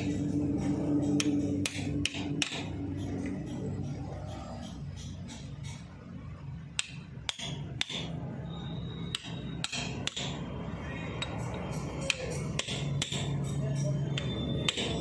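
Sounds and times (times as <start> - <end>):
hammer tapping metal: 0.0 - 15.0.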